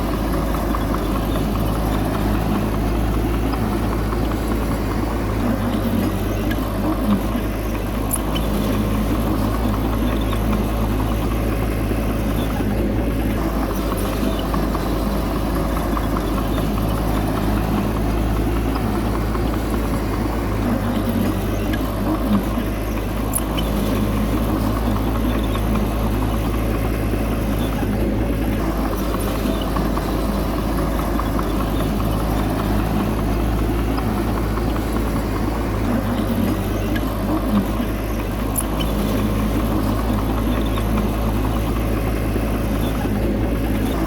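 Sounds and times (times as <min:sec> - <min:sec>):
diesel engine running steadily: 0:00.0 - 0:44.0.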